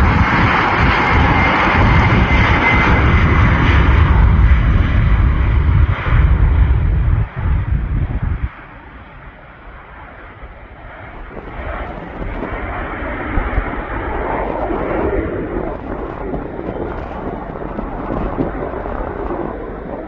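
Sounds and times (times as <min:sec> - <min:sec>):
airplane engine: 0:00.0 - 0:20.0.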